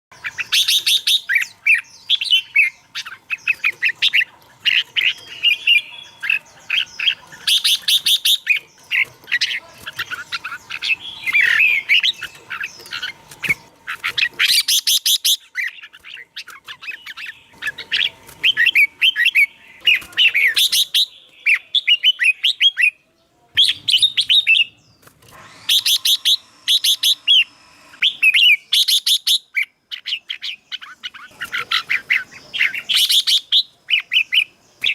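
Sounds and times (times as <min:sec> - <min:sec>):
bulbul singing: 0:00.1 - 0:34.9.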